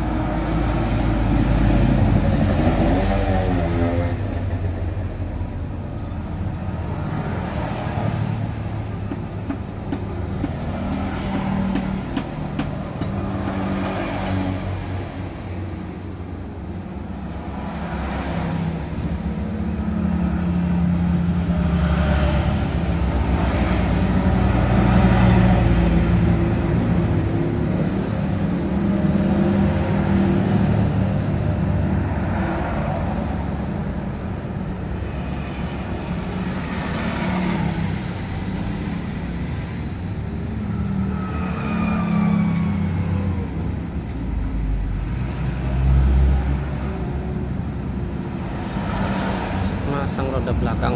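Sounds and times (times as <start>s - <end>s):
passing road traffic: 0.0s - 50.9s.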